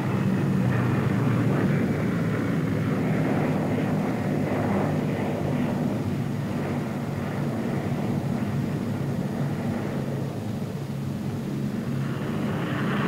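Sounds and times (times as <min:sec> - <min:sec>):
piston engine plane droning past: 0:00.0 - 0:13.0.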